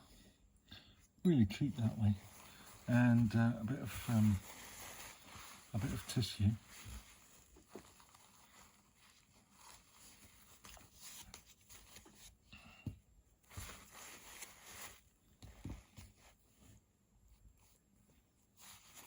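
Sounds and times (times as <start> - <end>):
tissue rustling: 1.5 - 12.5, 13.3 - 19.0.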